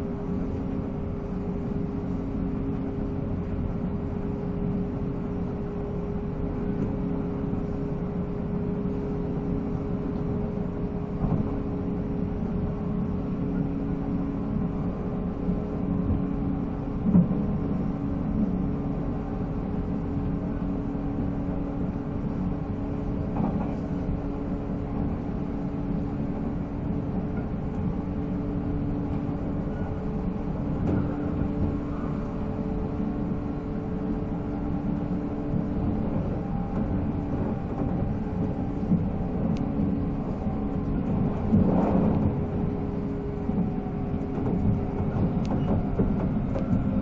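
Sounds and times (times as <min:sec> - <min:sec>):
wheels rumbling on rails: 0:00.0 - 0:47.0.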